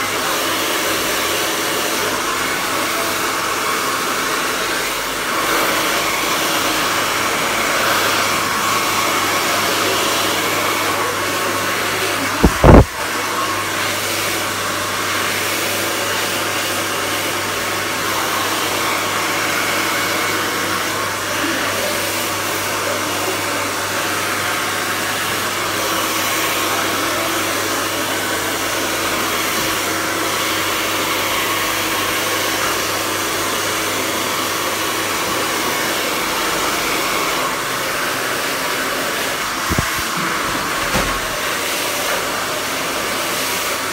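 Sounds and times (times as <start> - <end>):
hair dryer blowing: 0.0 - 43.9.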